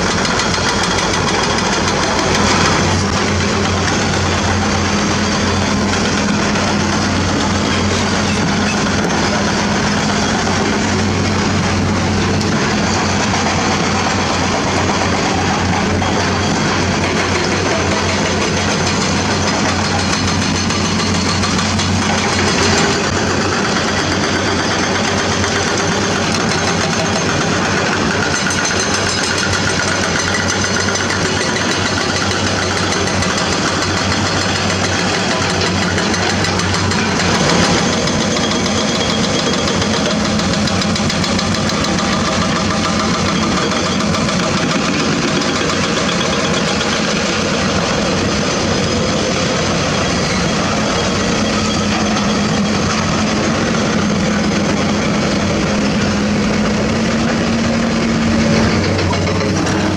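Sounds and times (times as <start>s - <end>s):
excavator diesel engines running: 0.0s - 59.9s.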